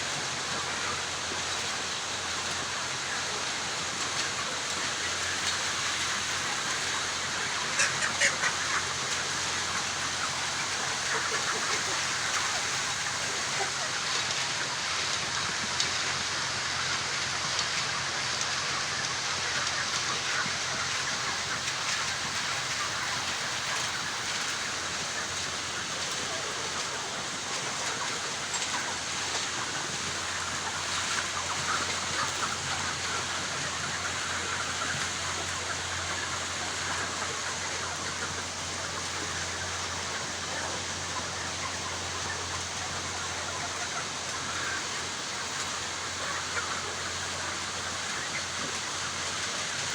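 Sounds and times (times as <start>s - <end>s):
flock of chickens calling: 0.0s - 49.9s.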